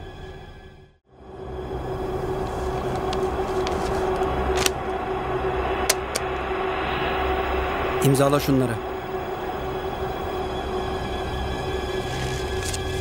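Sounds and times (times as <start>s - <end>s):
low rumbling suspense drone: 1.1s - 13.0s.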